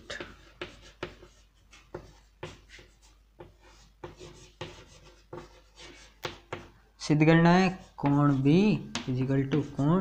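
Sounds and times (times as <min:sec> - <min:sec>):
chalk scratching on chalkboard: 0:00.0 - 0:06.8, 0:07.4 - 0:10.0.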